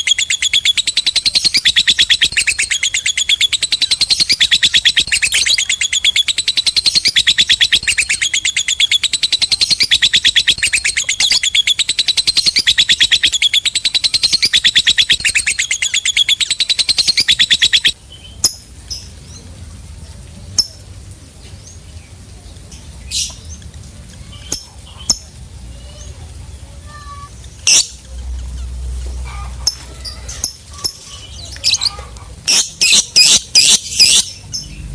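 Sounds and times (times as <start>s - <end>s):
lovebird chattering song: 0.0s - 19.4s, 21.6s - 34.9s.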